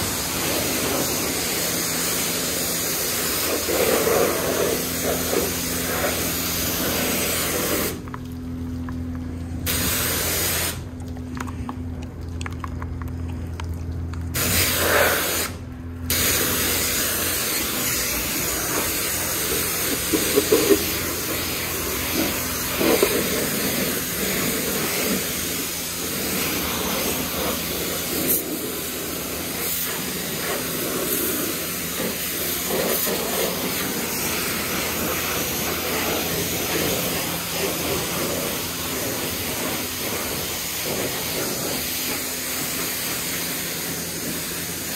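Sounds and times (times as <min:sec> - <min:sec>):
pressure washer spraying car: 0:00.0 - 0:08.1, 0:09.6 - 0:10.9, 0:14.3 - 0:44.9
low steady hum: 0:00.0 - 0:44.9.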